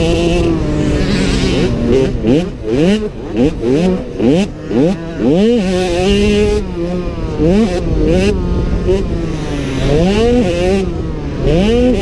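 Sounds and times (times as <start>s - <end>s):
two-stroke motorbike engine revving: 0.0s - 12.0s.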